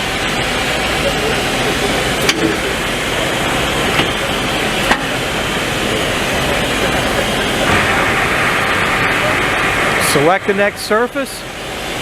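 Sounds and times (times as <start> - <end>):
belt sander running: 0.0 - 12.0.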